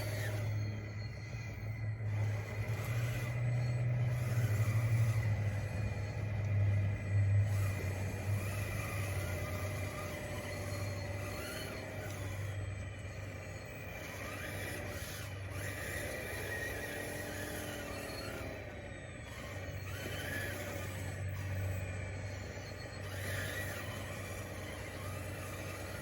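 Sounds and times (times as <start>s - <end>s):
steady low hum: 0.0s - 26.0s
toy bulldozer motor whine: 0.0s - 26.0s.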